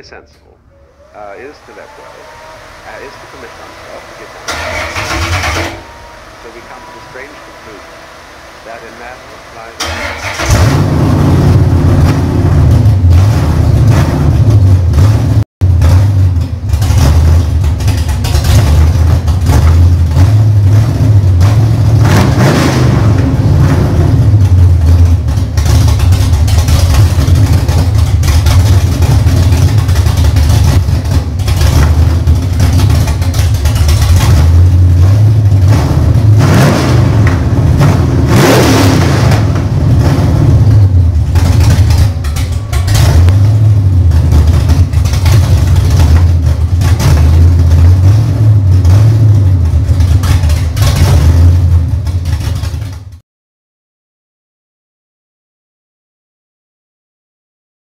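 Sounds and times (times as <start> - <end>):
car engine running loud: 0.0 - 53.2
engine revving: 0.0 - 53.2.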